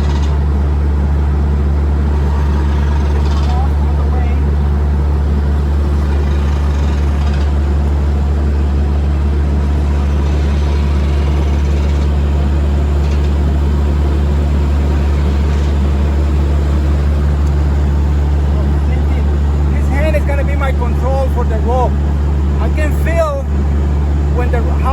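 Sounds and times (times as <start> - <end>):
air compressor droning: 0.0 - 24.9.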